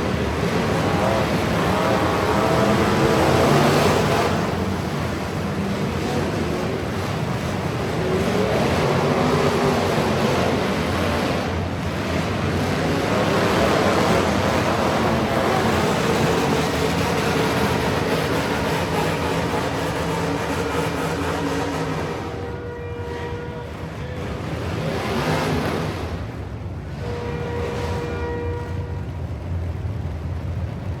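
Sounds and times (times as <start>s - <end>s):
truck engines running hard: 0.0s - 31.0s.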